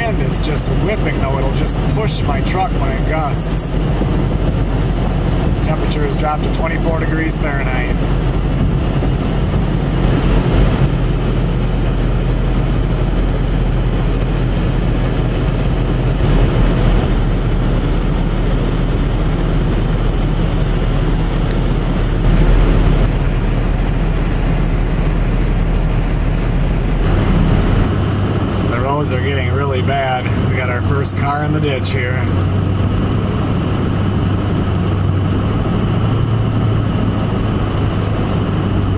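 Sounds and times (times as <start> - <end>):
road and engine noise: 0.0 - 38.9.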